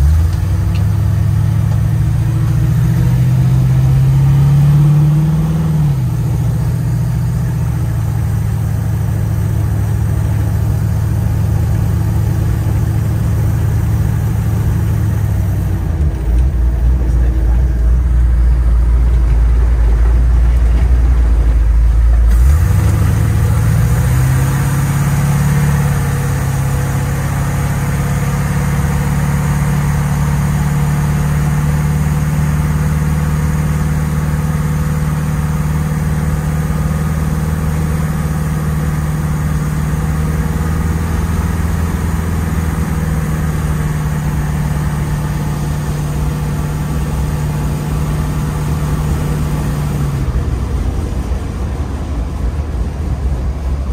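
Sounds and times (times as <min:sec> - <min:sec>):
road noise: 0:00.0 - 0:53.9
truck engine accelerating: 0:00.0 - 0:53.9.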